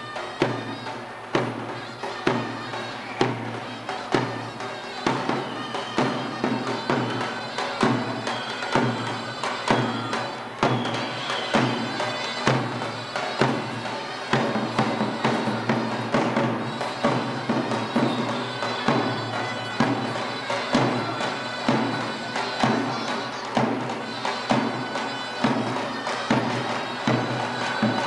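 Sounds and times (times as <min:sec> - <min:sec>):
drum beat: 0:00.0 - 0:28.0
reedy wind instrument melody: 0:00.0 - 0:28.0.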